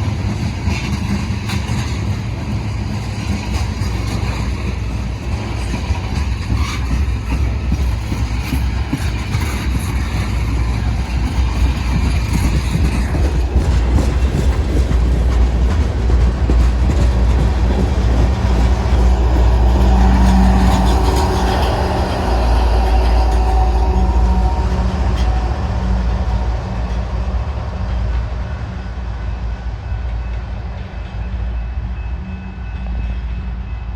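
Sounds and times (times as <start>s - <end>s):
freight train rumbling by: 0.0s - 33.9s.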